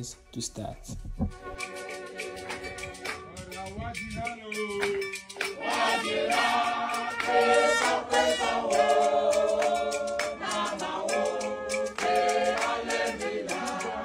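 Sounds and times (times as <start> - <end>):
choir singing: 1.5 - 3.4, 4.5 - 14.0.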